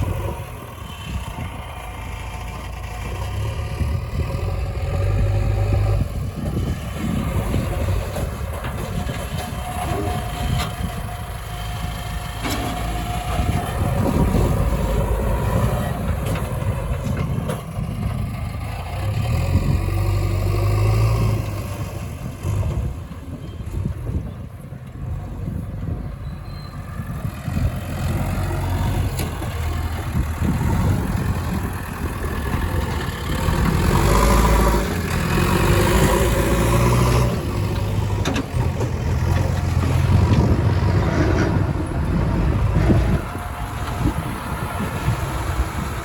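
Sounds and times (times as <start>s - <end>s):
heavy diesel engines rumbling: 0.0s - 46.0s.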